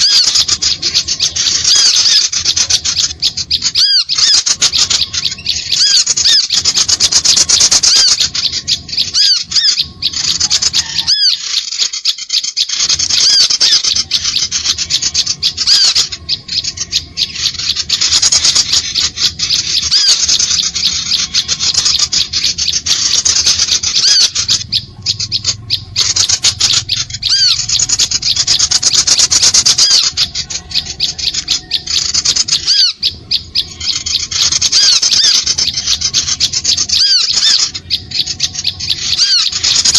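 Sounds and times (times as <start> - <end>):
small birds scolding calls: 0.0 - 39.9.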